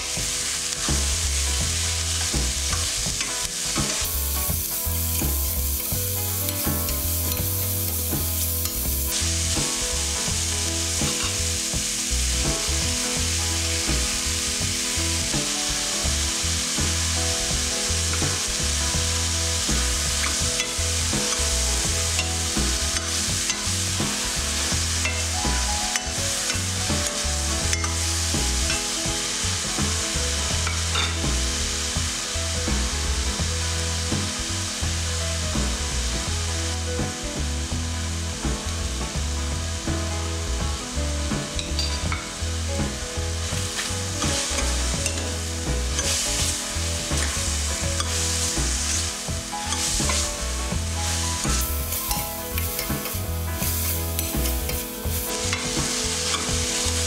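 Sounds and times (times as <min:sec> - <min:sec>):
vegetables sizzling in a pan: 0:00.0 - 0:57.0.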